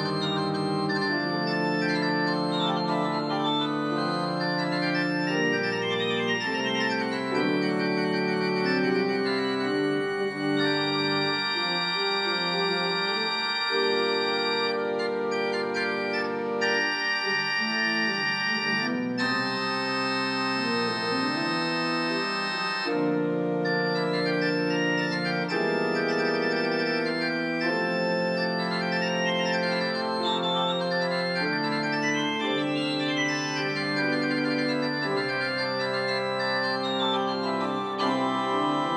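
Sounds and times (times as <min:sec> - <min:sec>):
organ playing slow chords: 0:00.0 - 0:38.9.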